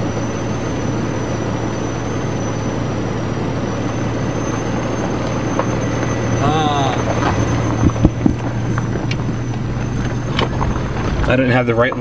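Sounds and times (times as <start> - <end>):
tyres on gravel road: 0.0 - 12.0
vehicle engine drone: 0.0 - 12.0.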